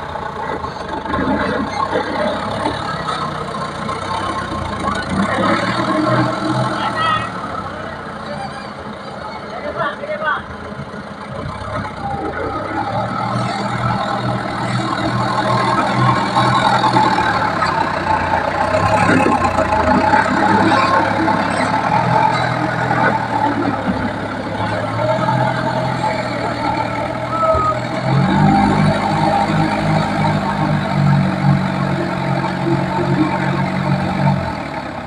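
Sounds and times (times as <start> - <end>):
heavy diesel engine under load: 0.0 - 35.0.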